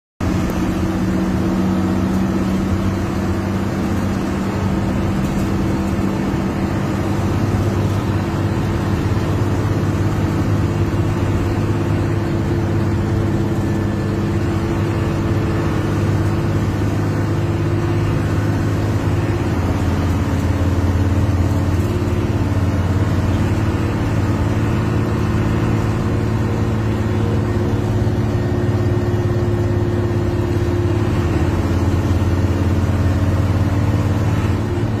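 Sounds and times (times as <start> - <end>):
bus diesel engine drone: 0.2 - 35.0.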